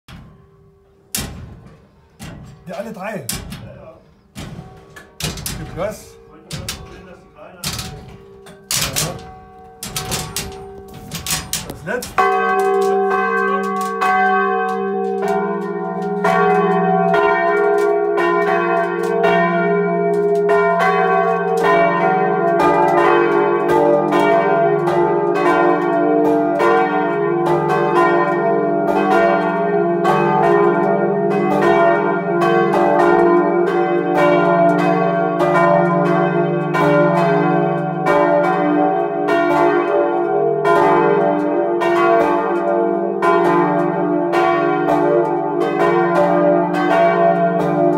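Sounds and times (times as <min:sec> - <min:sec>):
church bells ringing: 0:00.1 - 0:47.9.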